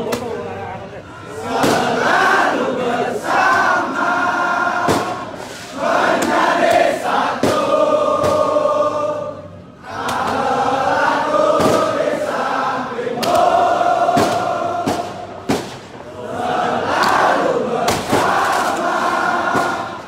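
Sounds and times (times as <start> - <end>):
crowd singing a chant: 1.2 - 20.0.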